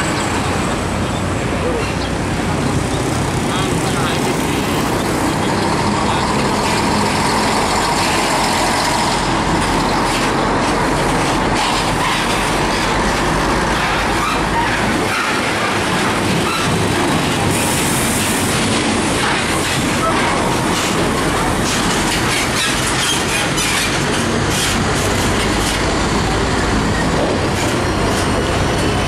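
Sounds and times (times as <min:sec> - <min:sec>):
diesel truck engines running: 0:00.0 - 0:29.0
trailer clatter: 0:00.0 - 0:29.0.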